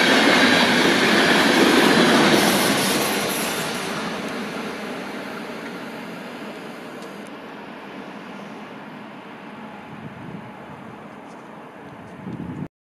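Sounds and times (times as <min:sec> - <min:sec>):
train rolling noise: 0:00.0 - 0:12.7.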